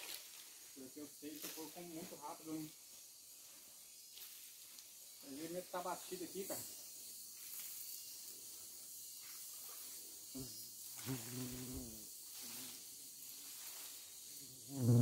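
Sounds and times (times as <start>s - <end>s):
insects hissing: 0.0s - 15.0s.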